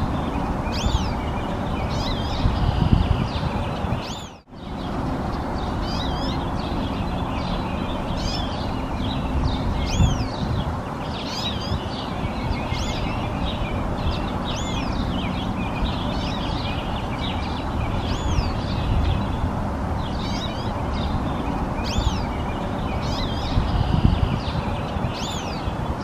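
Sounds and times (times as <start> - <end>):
bird chirping and twittering: 0.0 - 26.0.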